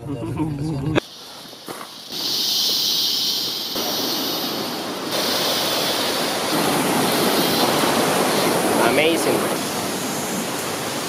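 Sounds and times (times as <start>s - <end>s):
river water rushing over rocks: 1.0s - 11.0s.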